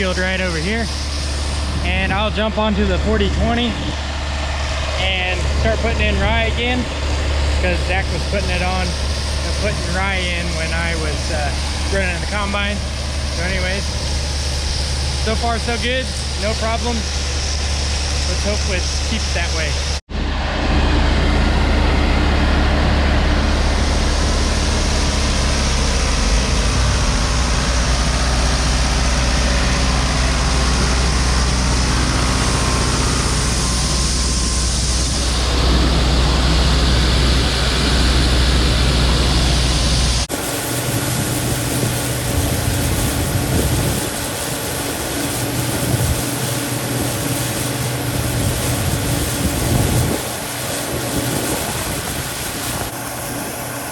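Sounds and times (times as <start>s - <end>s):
heavy farm vehicle engine: 0.0s - 53.9s
machine with high whine: 0.0s - 53.9s.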